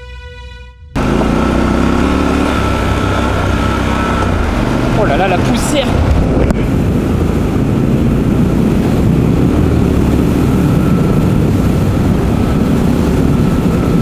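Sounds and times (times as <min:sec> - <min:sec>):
motorcycle engine running: 0:01.0 - 0:14.0.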